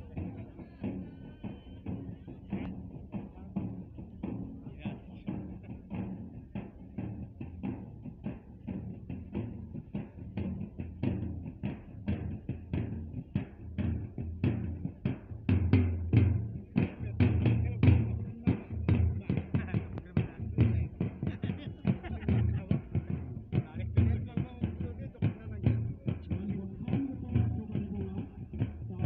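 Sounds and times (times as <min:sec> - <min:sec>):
large hand drums beating: 0:00.0 - 0:29.0.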